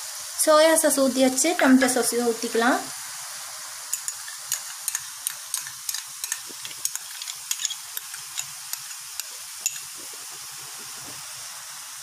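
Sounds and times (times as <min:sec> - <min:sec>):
food sizzling in pan: 0:00.0 - 0:12.0.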